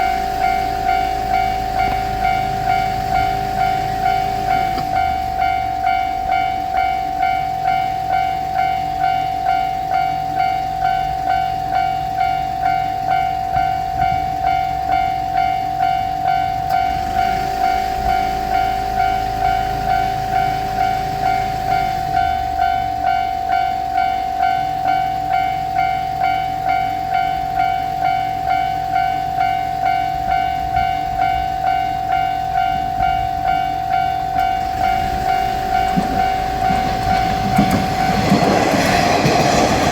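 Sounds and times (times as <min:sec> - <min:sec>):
level-crossing bell ringing: 0:00.0 - 0:39.9.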